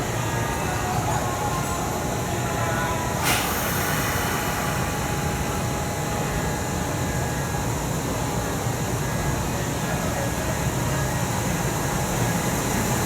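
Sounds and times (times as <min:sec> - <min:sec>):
electric train humming: 0:00.0 - 0:10.8.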